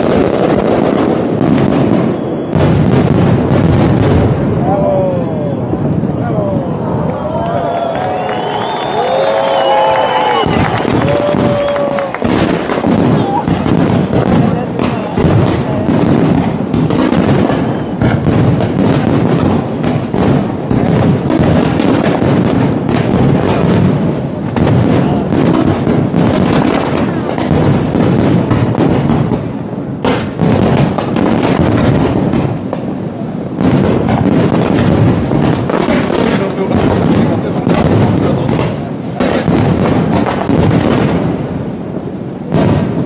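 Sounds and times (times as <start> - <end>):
sharp firework bang: 0.0 - 6.2, 8.2 - 43.0
fireworks bangs and crackle: 0.0 - 43.0.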